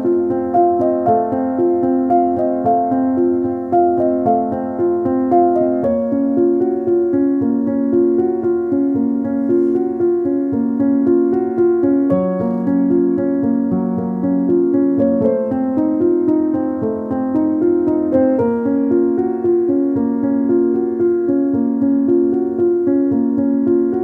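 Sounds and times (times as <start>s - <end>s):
calm keyboard melody: 0.0s - 24.0s.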